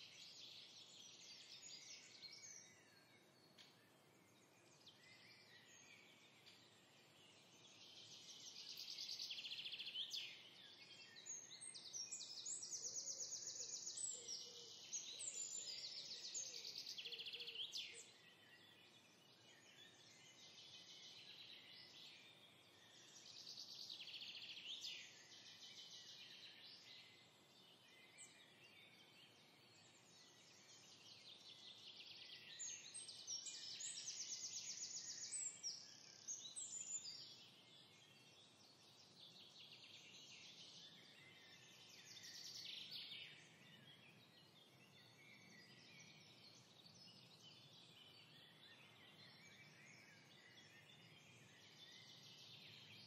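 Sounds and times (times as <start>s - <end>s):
faint birds chirping and trilling: 0.0s - 53.0s.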